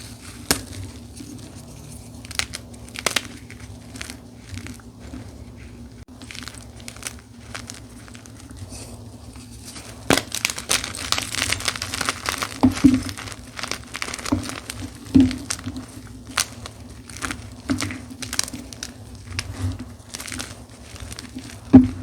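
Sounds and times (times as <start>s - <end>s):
chalk crushed by hand crackling: 0.0s - 22.0s.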